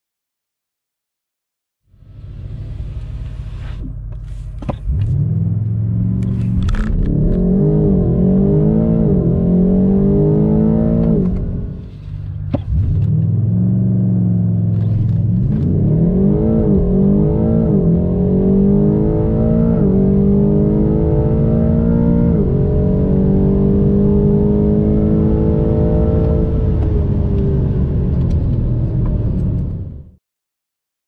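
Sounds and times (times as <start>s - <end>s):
car engine accelerating through gears: 2.0s - 30.1s.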